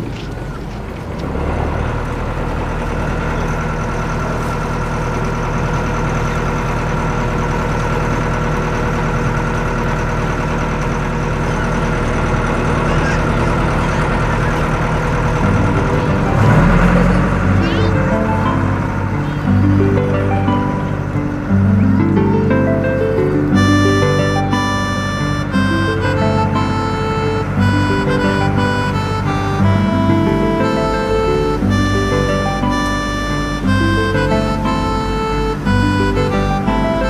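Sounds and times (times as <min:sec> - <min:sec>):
boat engine drone: 0:00.0 - 0:37.0.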